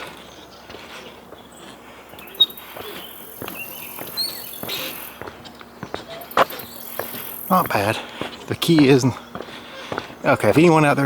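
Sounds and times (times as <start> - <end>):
footsteps on footbridge: 0.0 - 11.0
insects droning: 0.0 - 11.0
bird chirps: 1.3 - 10.3.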